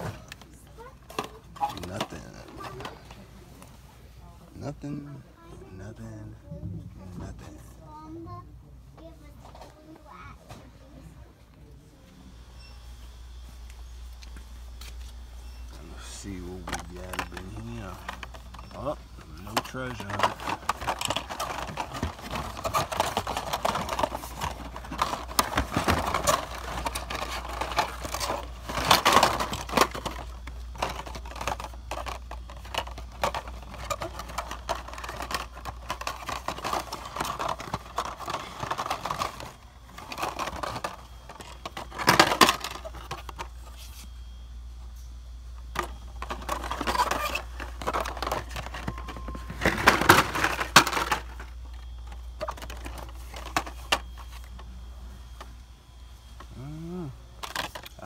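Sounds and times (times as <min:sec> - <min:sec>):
card and plastic rustling: 0:00.0 - 0:03.7, 0:14.1 - 0:58.0.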